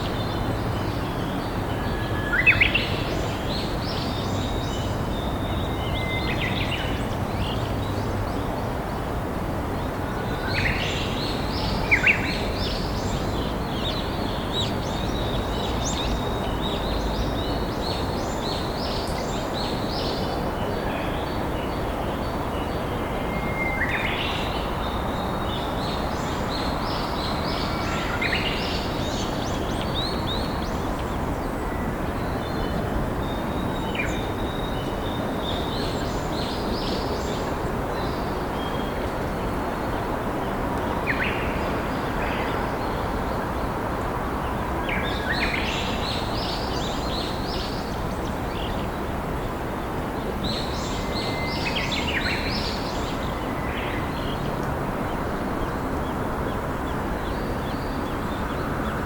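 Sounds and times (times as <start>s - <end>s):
small birds singing: 0.0s - 59.0s.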